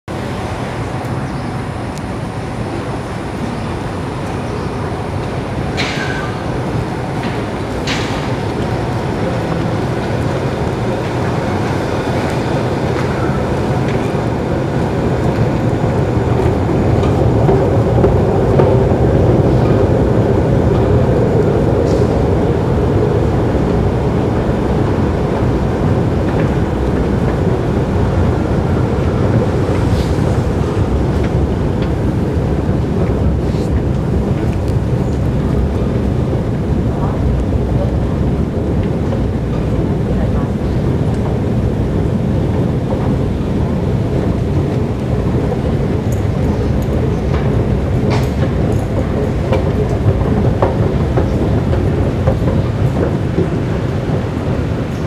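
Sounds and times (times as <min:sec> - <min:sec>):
escalator rumble and hum: 0:00.1 - 0:55.0.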